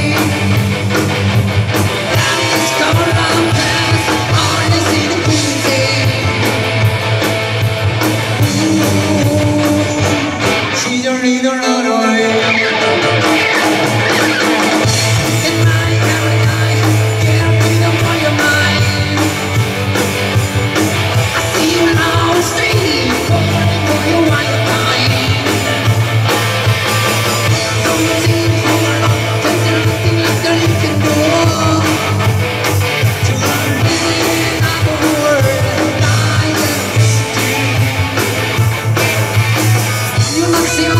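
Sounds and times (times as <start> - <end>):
person singing: 0.0 - 0.8, 2.0 - 6.8, 8.3 - 19.6, 21.2 - 26.1, 26.9 - 38.5, 40.0 - 40.9
live rock band: 0.0 - 40.9.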